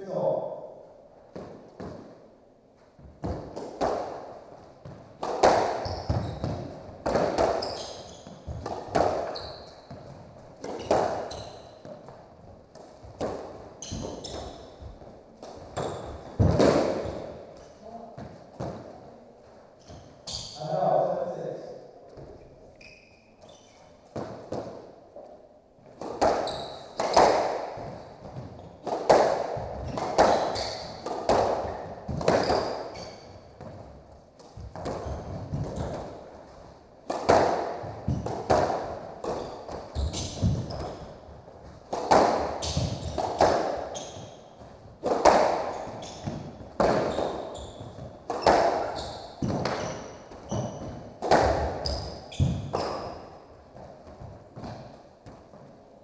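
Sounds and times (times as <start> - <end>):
squash ball hitting rackets and walls: 1.2 - 20.6, 22.1 - 56.0.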